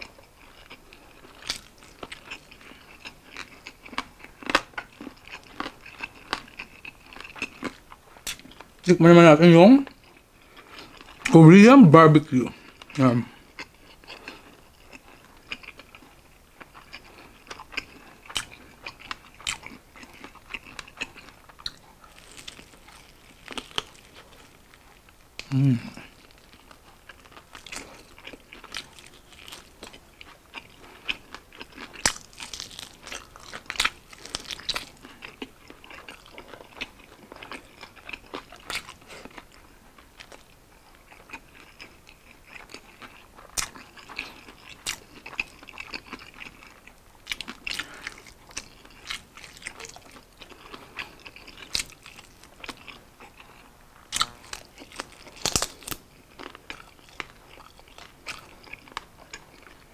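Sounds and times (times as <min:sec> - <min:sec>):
crunching and chewing chicken: 0:00.0 - 0:08.9, 0:09.7 - 0:11.5, 0:12.4 - 0:59.9.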